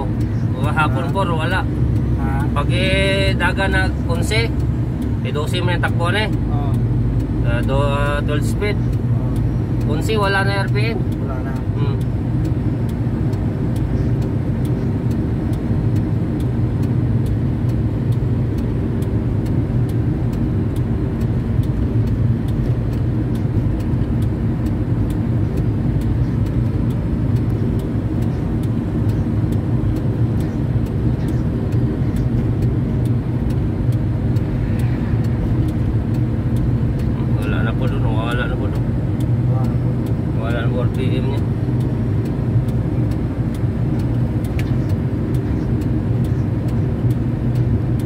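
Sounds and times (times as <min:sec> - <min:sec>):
crane engine droning: 0:00.0 - 0:48.0
road and tyre noise: 0:00.0 - 0:48.0.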